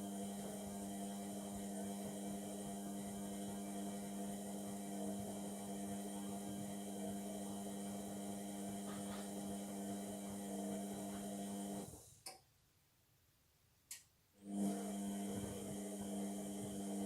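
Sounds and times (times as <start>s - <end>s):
washing machine motor humming: 0.0s - 12.1s, 14.4s - 17.0s.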